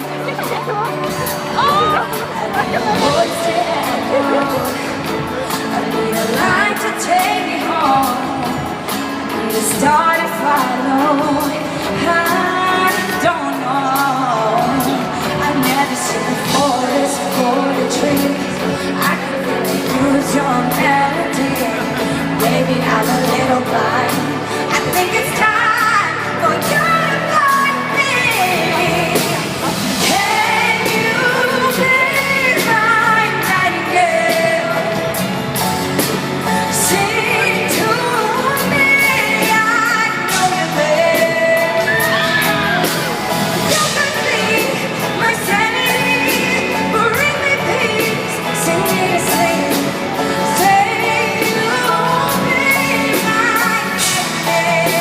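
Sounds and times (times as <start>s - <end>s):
band accompaniment: 0.0s - 55.0s
woman singing pop ballad: 0.0s - 55.0s.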